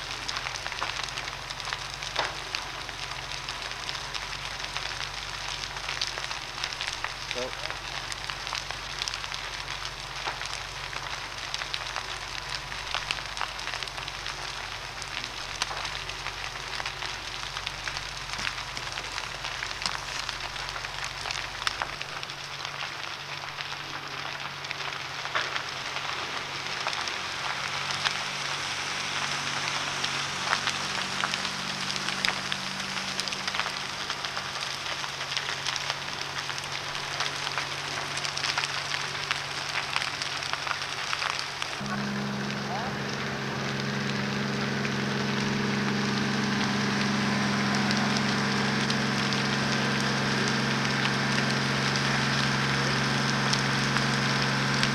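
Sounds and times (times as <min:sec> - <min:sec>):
low steady hum: 0:00.0 - 0:34.8, 0:41.7 - 0:54.9
fire crackling and popping: 0:00.0 - 0:54.9
steady hiss: 0:00.0 - 0:54.9.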